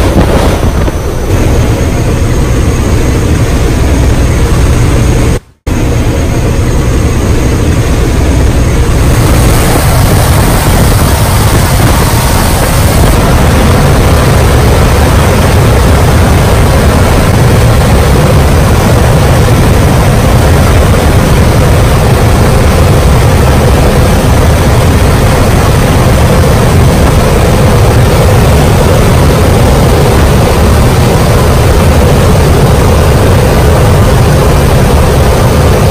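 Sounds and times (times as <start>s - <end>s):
aircraft engine noise: 0.0s - 35.9s
wind rushing: 0.0s - 35.9s.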